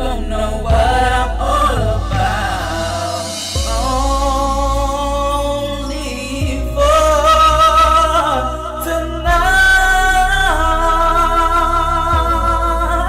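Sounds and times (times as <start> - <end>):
slow r and b music: 0.0 - 13.0
wordless singing: 0.0 - 13.0.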